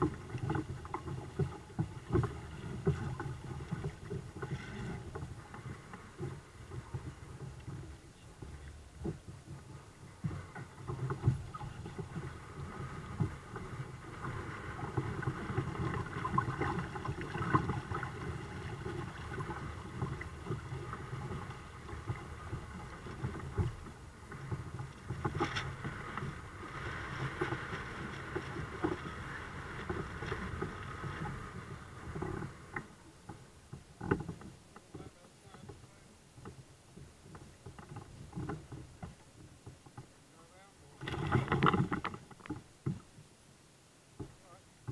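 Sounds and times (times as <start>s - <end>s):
water lapping against hulls: 0.0s - 44.9s.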